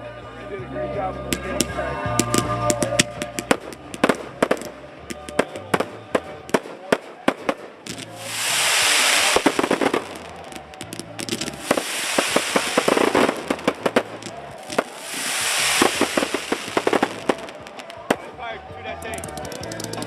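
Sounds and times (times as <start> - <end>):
fireworks crackling pops: 1.3 - 18.4
fireworks hissing: 1.4 - 18.3.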